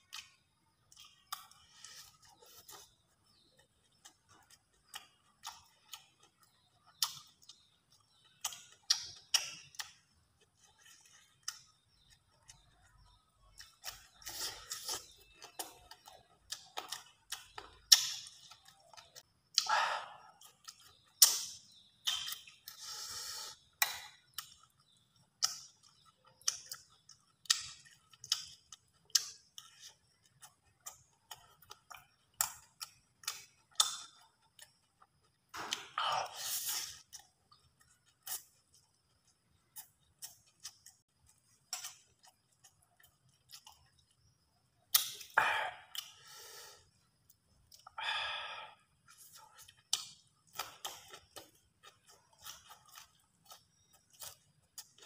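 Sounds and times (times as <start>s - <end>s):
chewing and mouth smacks: 0.0s - 22.8s, 23.7s - 46.3s, 49.0s - 55.0s.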